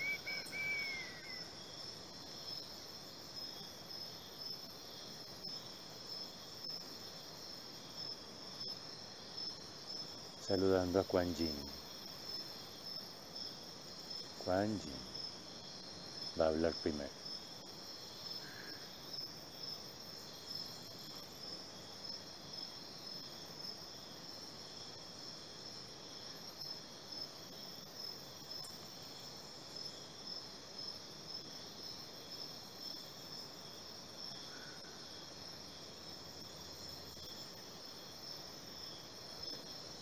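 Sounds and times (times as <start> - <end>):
faint background hiss: 0.0 - 40.0
insects chirping: 0.0 - 40.0.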